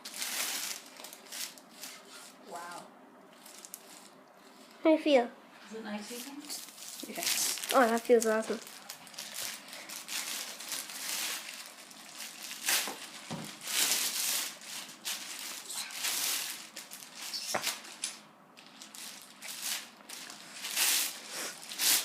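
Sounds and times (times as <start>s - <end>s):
plastic wrapping crinkling: 0.0s - 4.8s, 6.0s - 22.0s.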